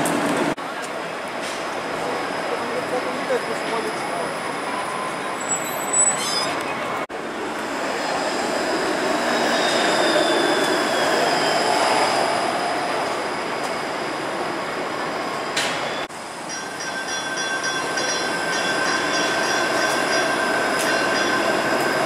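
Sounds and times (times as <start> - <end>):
streetcar rumbling on rails: 0.0 - 22.0.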